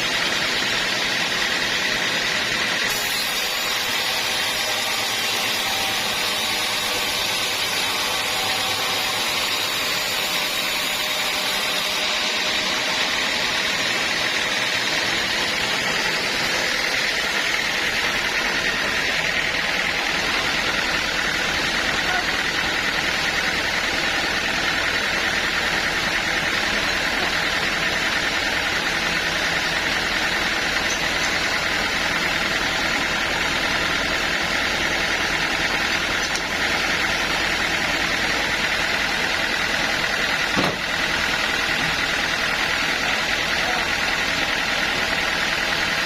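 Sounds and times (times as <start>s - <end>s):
band saw machinery running: 0.0s - 46.0s.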